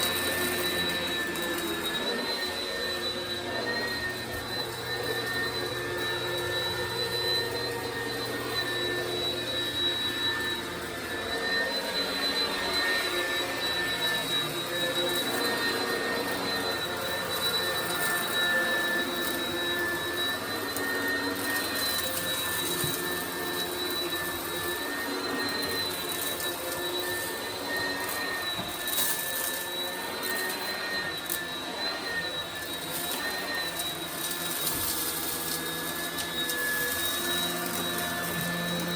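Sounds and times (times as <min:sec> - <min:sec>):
upright vacuum motor whine: 0:00.0 - 0:38.9.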